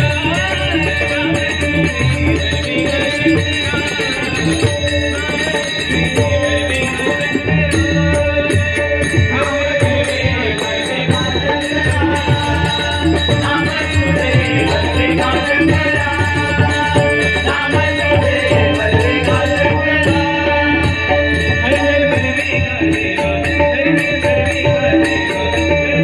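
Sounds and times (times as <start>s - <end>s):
devotional singing: 0.0s - 26.0s
drum accompaniment: 0.0s - 26.0s.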